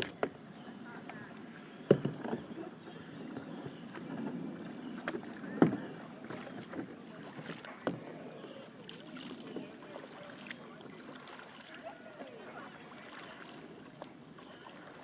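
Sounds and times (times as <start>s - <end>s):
kayak paddle in water: 0.0s - 15.0s.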